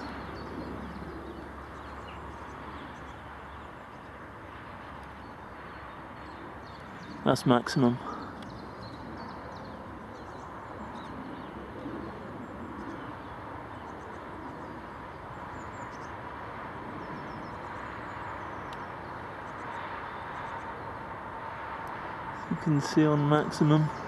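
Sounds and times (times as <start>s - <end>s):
distant jet engines whining: 0.0s - 24.0s
small birds chirping: 0.0s - 24.0s.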